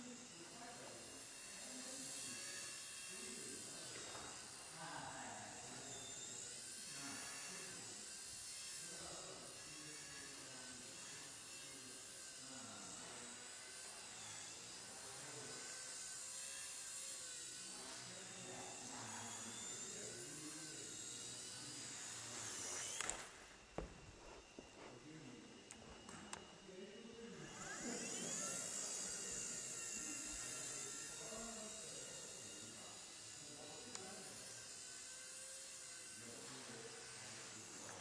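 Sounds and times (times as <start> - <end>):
rc helicopter motor whine: 0.0 - 38.0.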